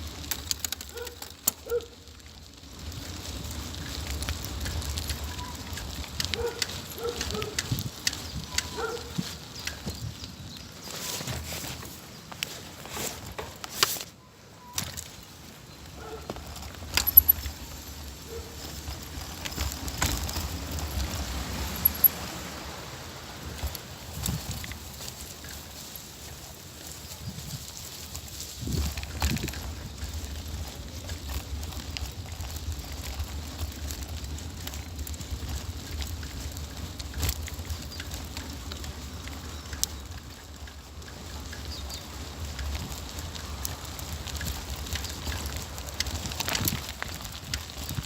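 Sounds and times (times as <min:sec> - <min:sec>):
bike rattling over bumps: 0:00.0 - 0:48.0
tyre and wind rumble: 0:00.0 - 0:48.0.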